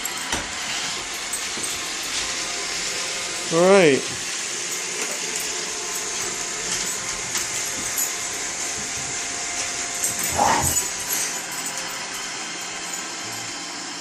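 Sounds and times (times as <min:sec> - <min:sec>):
robot vacuum running: 0:00.0 - 0:14.0.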